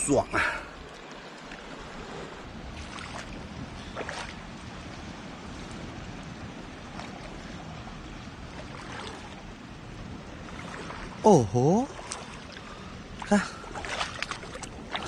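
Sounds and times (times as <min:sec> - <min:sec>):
seawater sloshing: 0:00.0 - 0:15.0
water splashes: 0:00.0 - 0:15.0.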